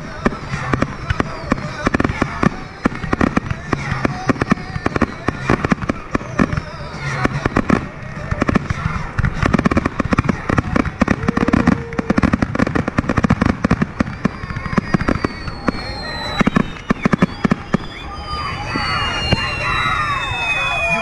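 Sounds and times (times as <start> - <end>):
firework shells booming and crackling: 0.0 - 21.0.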